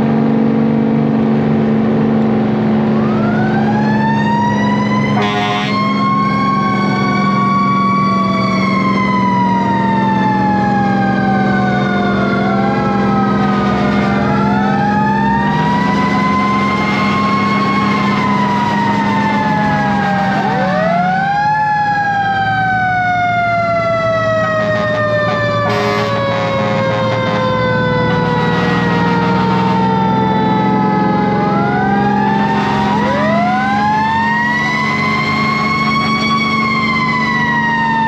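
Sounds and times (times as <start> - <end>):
diesel engine hum: 0.0 - 38.0
mechanical fire engine sirens: 2.2 - 38.0.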